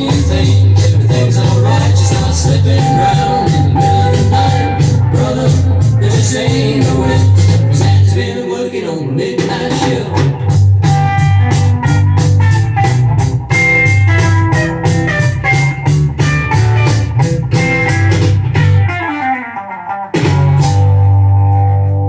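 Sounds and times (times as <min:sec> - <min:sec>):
steady drum beat: 0:00.0 - 0:08.2, 0:09.4 - 0:19.0
heavy bass line: 0:00.0 - 0:08.4, 0:09.2 - 0:19.5, 0:20.2 - 0:22.0
blues-rock record playing: 0:00.0 - 0:22.0
plucked guitar: 0:00.0 - 0:22.0.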